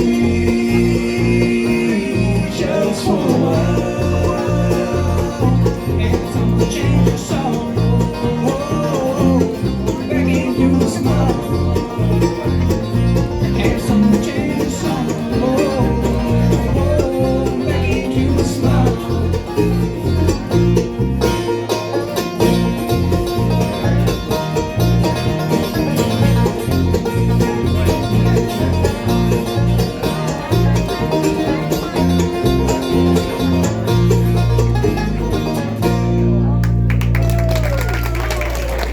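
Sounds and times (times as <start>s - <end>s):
plucked string instruments: 0.0s - 38.9s
rhythmic bass line: 0.0s - 38.9s.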